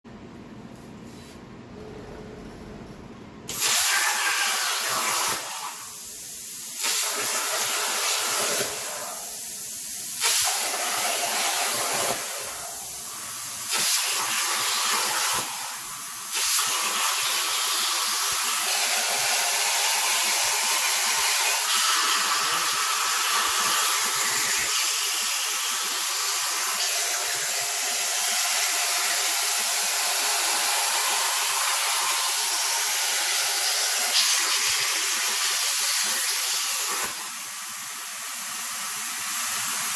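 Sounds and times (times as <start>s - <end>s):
plasma cutter hissing: 3.5s - 39.9s.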